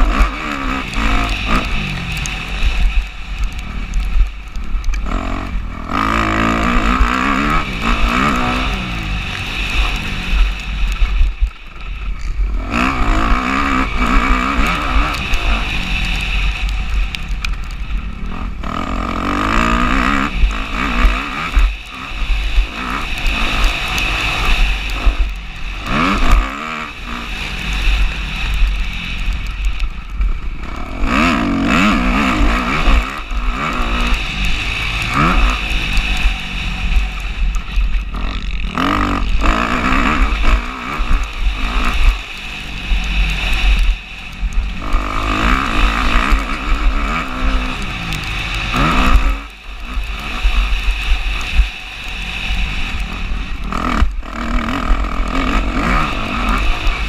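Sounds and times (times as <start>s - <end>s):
heavy low rumble: 0.0s - 57.0s
motocross bike engine revving: 0.0s - 57.0s.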